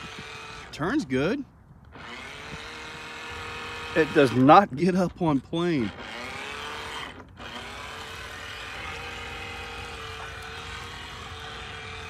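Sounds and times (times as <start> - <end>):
electric motor whining: 0.0 - 1.1, 1.9 - 4.6, 5.7 - 12.0.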